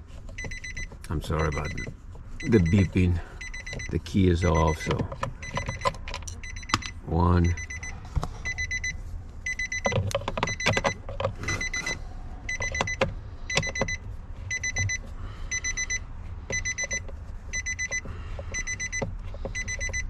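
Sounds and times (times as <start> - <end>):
car warning chime beeping: 0.3 - 20.0.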